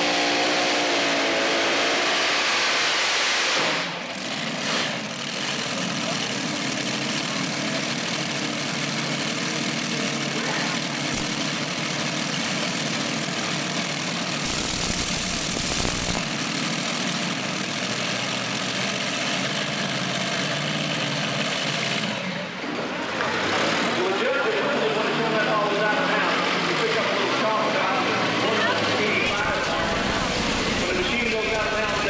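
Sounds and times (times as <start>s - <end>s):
tractor engines idling: 4.0s - 32.0s.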